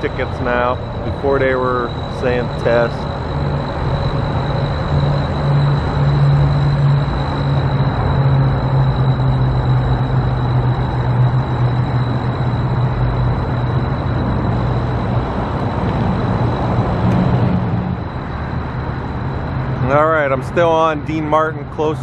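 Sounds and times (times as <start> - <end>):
high-pitched tone: 0.0 - 20.9
road noise: 0.0 - 22.0
vehicle engine hum: 0.0 - 22.0.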